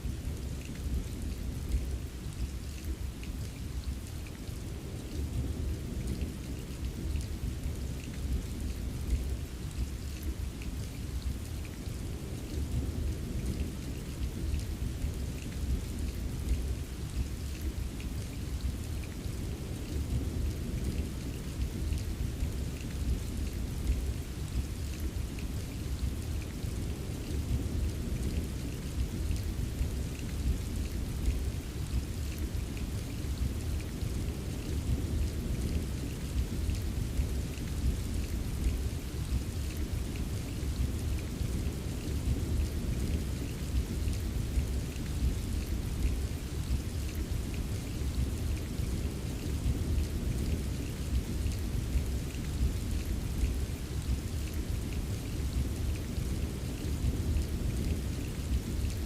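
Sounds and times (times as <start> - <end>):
pattering rain: 0.0 - 59.0.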